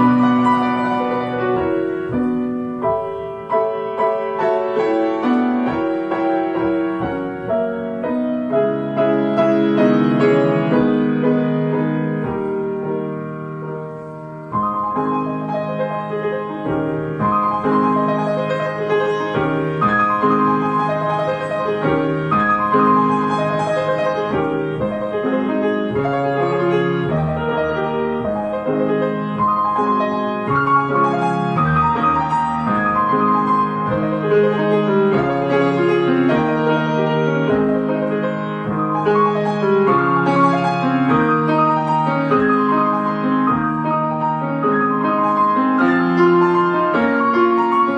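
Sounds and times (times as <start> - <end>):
solo grand piano: 0.0 - 47.9.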